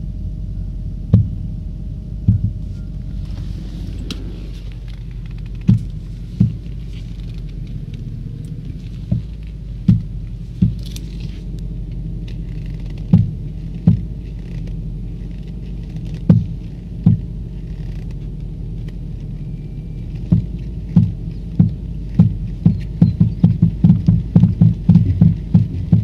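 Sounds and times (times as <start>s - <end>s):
car engine running hum: 0.0s - 26.0s
dull engine knocks: 0.9s - 26.0s.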